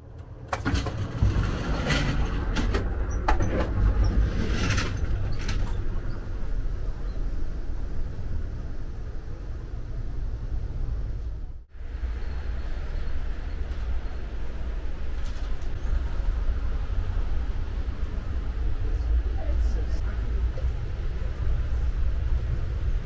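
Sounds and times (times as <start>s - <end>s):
low rumble of running train: 0.0s - 23.0s.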